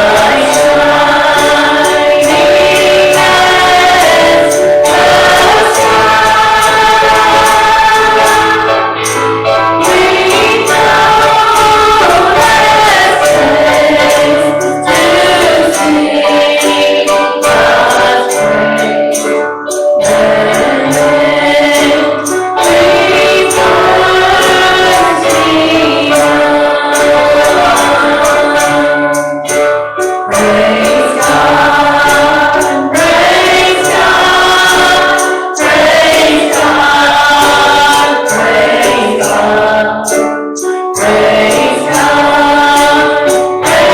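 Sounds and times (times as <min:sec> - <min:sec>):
choir and congregation singing: 0:00.0 - 0:43.9
tambourine beat: 0:00.0 - 0:43.9.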